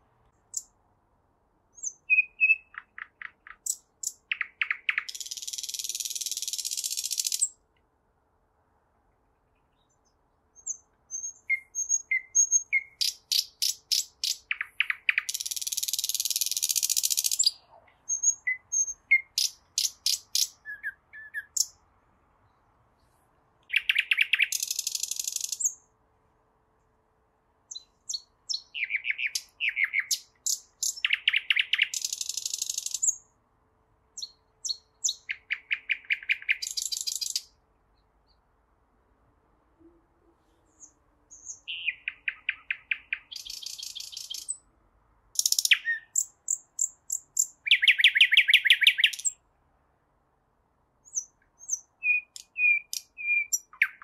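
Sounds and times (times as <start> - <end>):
nightingale singing: 0.2 - 0.8, 1.7 - 7.6, 9.4 - 25.9, 27.7 - 33.4, 34.2 - 38.5, 39.8 - 44.7, 45.3 - 49.5, 51.0 - 54.0.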